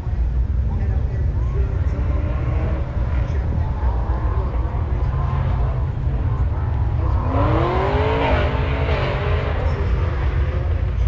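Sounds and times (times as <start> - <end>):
car engine revving: 1.4 - 11.0.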